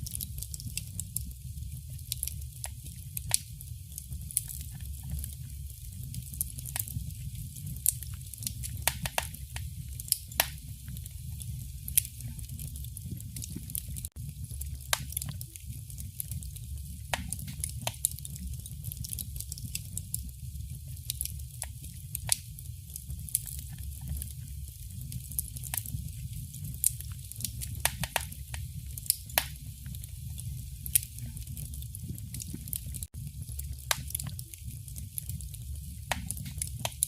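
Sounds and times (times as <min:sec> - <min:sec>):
low fire rumble: 0:00.0 - 0:37.0
wood fire crackling: 0:00.0 - 0:37.0.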